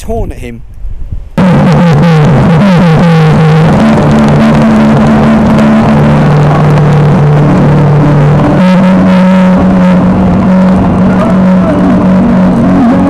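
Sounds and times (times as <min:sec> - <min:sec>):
wind noise: 0:00.0 - 0:13.0
road noise: 0:01.2 - 0:13.0
motorcycle engine running: 0:01.4 - 0:13.0.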